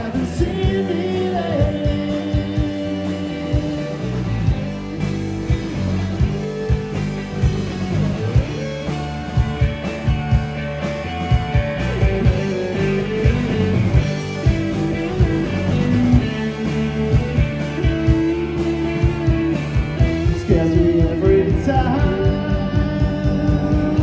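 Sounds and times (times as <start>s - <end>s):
bass guitar: 0.0s - 24.0s
guitars: 0.0s - 24.0s
steady drum beat: 0.0s - 24.0s.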